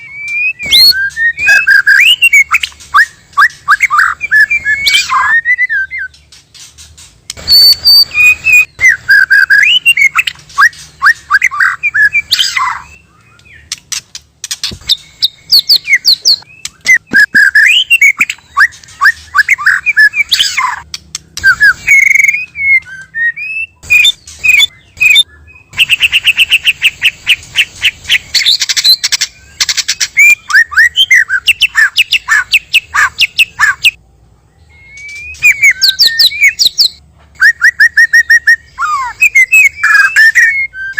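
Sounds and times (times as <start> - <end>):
bird singing whistles: 0.0 - 6.2, 7.3 - 13.8, 14.6 - 20.8, 21.4 - 34.0, 34.6 - 40.9.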